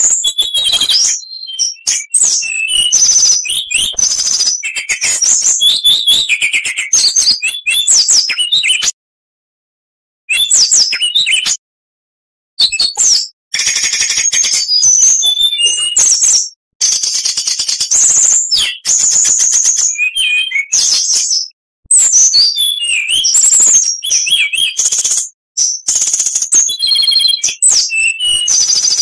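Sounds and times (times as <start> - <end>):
bird singing whistles and trills: 0.0 - 9.0, 10.3 - 11.6, 12.6 - 29.0.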